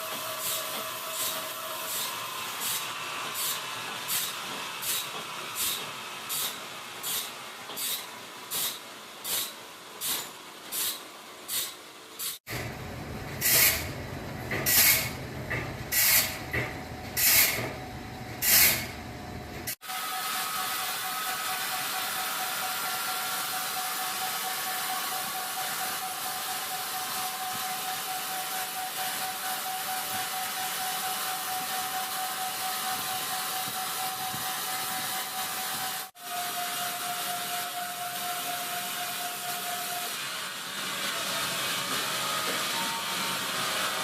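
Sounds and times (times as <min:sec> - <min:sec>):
steady machine-like hiss: 0:00.0 - 0:12.4, 0:15.9 - 0:16.5, 0:17.2 - 0:17.8, 0:19.7 - 0:44.0.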